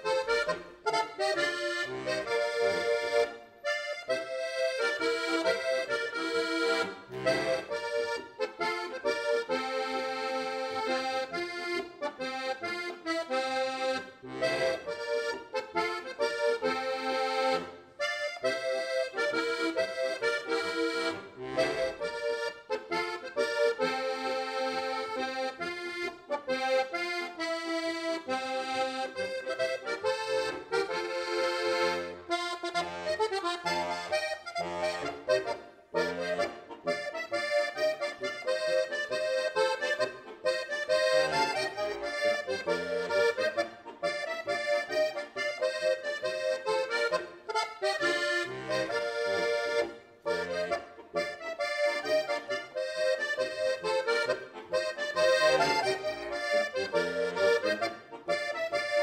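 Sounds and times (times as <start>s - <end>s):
button accordion playing: 0.0s - 59.0s.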